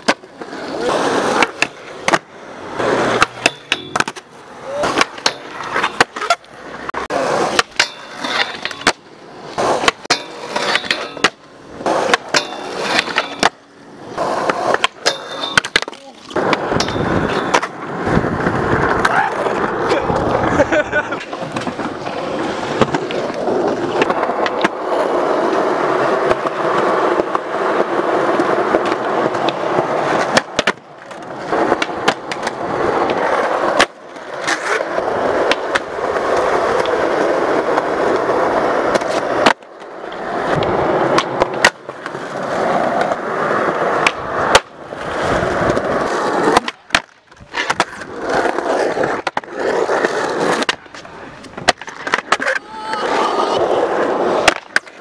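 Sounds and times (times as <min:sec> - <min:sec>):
skateboard clacks popping and landing: 0:00.0 - 0:55.0
skateboard wheels rolling on concrete: 0:00.0 - 0:55.0.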